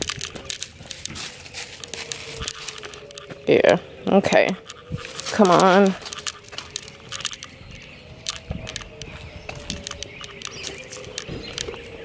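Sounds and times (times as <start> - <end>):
dog claws ticking on concrete: 0.0 - 3.5, 4.3 - 7.6, 8.2 - 11.8
footsteps on concrete: 0.0 - 3.6, 4.3 - 12.0.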